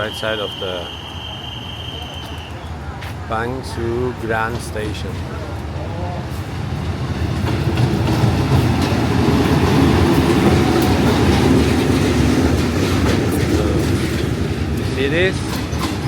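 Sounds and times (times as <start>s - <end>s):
train running on tracks: 0.0s - 16.0s.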